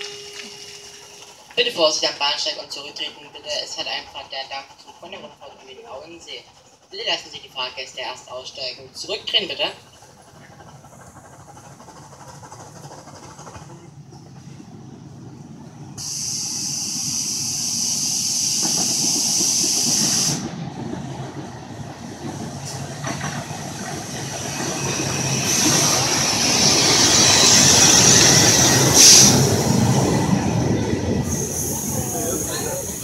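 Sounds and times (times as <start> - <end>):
small train rumbling and rattling: 0.0 - 33.0
steam hissing: 0.0 - 33.0.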